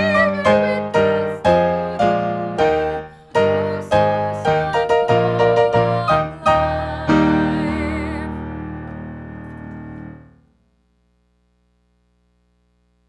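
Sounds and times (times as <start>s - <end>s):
piano playing chords: 0.0s - 10.5s.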